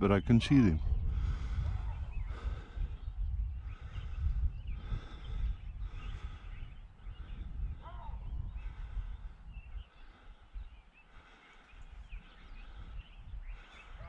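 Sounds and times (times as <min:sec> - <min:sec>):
birds chirping and calling: 0:00.0 - 0:14.0
wind rumble on microphone: 0:00.0 - 0:14.0.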